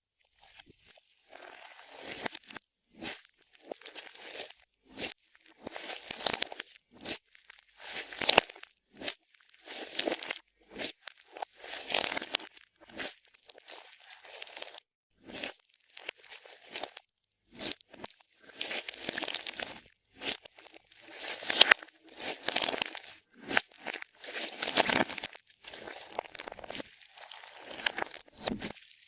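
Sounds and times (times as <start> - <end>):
slime crackling and popping: 1.7 - 29.0.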